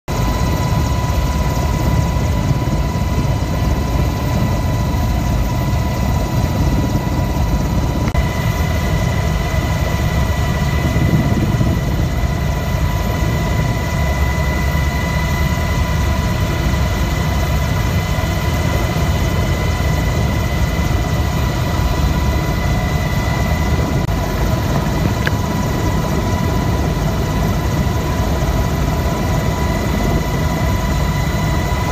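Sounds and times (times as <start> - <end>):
helicopter rotor and engine rumble: 0.1 - 31.9
high whine: 0.1 - 31.9.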